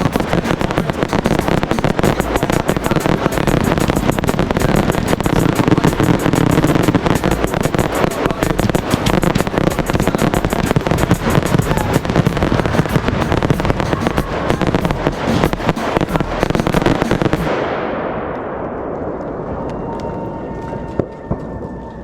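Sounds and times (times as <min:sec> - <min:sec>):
fireworks cracks and booms: 0:00.0 - 0:20.2.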